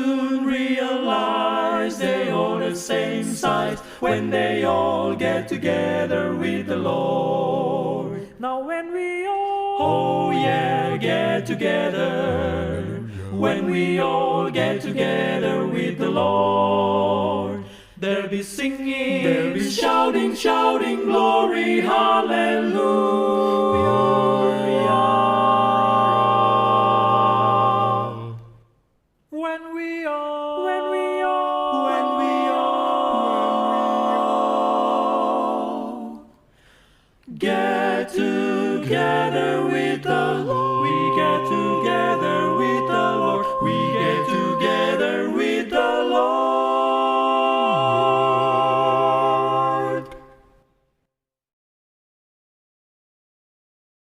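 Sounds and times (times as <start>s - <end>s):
vocal quartet singing in harmony: 0.0s - 50.7s.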